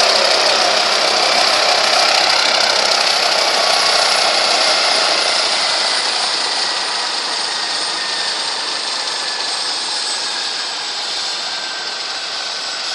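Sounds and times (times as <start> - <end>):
helicopter rotor rushing: 0.0 - 12.9
turbine whine: 0.0 - 12.9.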